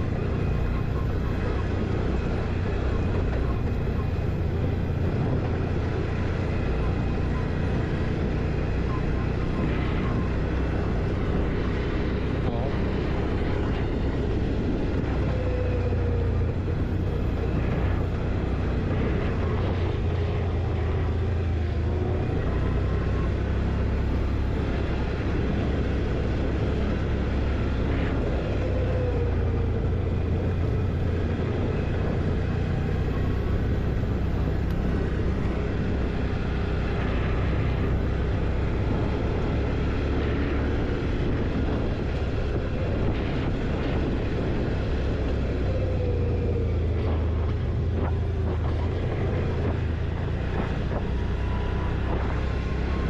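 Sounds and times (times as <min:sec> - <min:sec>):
quad bike engine droning: 0:00.0 - 0:53.0.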